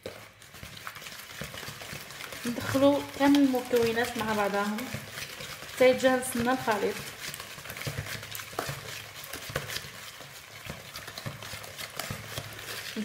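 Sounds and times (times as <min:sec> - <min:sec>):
whisk scraping a plastic bowl: 0:00.0 - 0:13.0.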